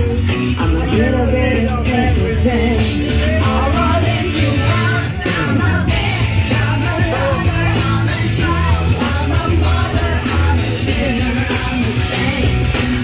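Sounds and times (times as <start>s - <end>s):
backing track with bass beat: 0.0s - 13.0s
people singing karaoke: 0.0s - 13.0s.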